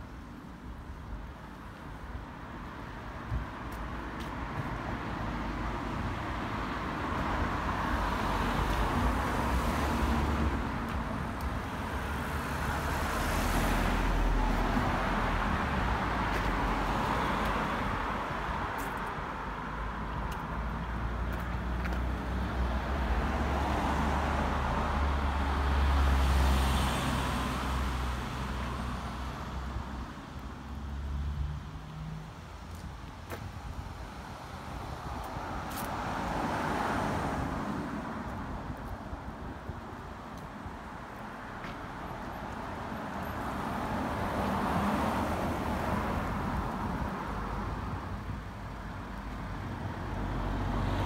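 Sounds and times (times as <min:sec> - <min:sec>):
vehicles driving past: 0:00.0 - 0:51.0.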